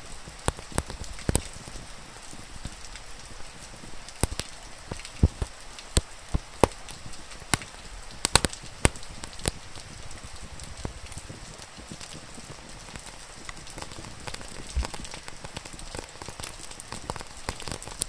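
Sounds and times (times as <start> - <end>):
steady rain: 0.0 - 18.0
wood fire crackling and popping: 0.0 - 18.0.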